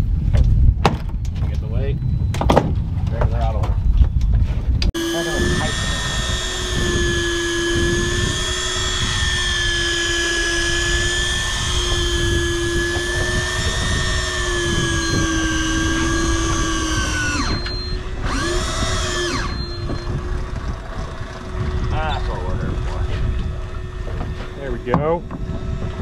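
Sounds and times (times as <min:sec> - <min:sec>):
wind and water rumble: 0:00.0 - 0:26.0
electric reel motor whining: 0:05.0 - 0:26.0.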